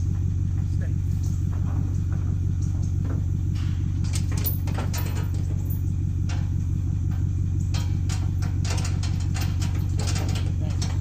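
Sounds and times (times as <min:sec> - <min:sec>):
engine idling: 0:00.0 - 0:11.0
metallic clanks and knocks: 0:00.0 - 0:11.0.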